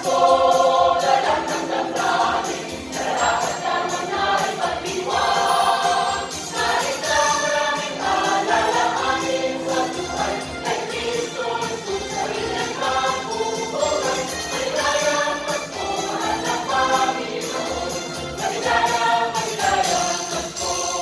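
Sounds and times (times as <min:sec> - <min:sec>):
choir singing a carol: 0:00.0 - 0:21.0
jingling percussion: 0:00.0 - 0:21.0
musical accompaniment: 0:00.0 - 0:21.0.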